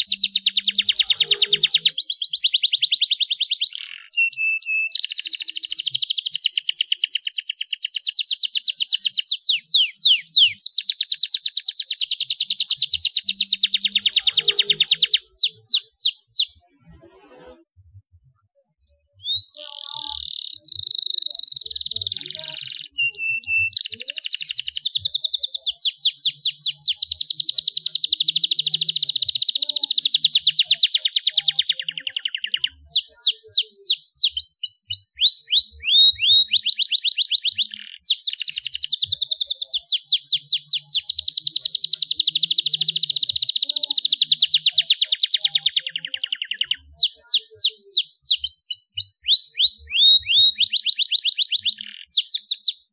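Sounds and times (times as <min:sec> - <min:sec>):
canary singing trills: 0:00.0 - 0:17.6, 0:18.6 - 0:52.9.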